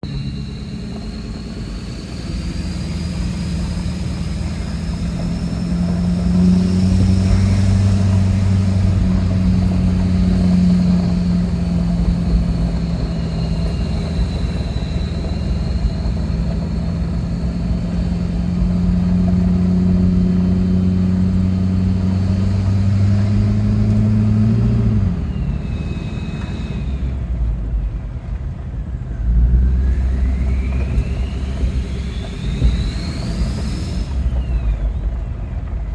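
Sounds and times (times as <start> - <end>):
high turbo whistle: 0.0 - 27.5, 29.2 - 35.6
diesel engine drone: 0.0 - 35.9.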